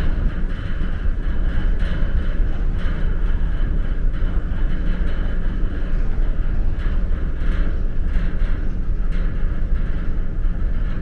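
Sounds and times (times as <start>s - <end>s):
ferry engine rumble: 0.0s - 11.0s.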